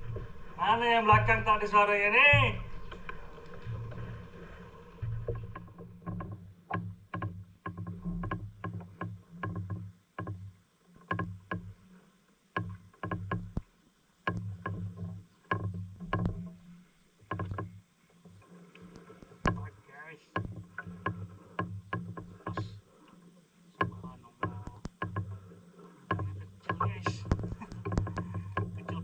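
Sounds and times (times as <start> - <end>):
water sloshing: 0.0 - 29.0.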